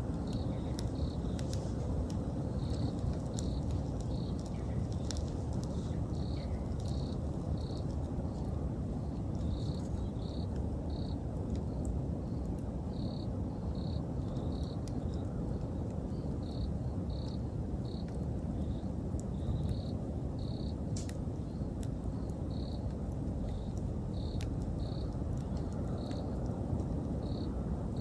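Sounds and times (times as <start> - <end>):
burning wood crackling and popping: 0.0 - 28.0
campfire rushing: 0.0 - 28.0
insects chirping in pulses: 0.1 - 11.2, 12.9 - 28.0.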